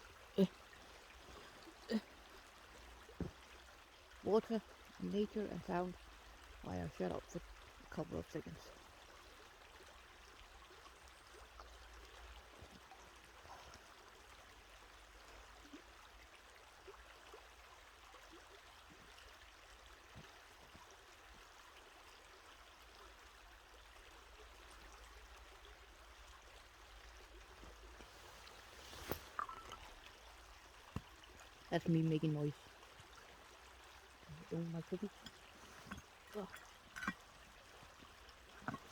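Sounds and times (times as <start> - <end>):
stream running water: 0.0 - 38.9.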